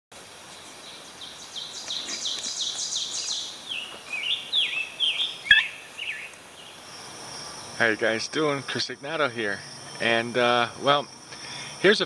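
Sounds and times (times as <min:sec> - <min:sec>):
songbird singing: 0:00.2 - 0:12.0.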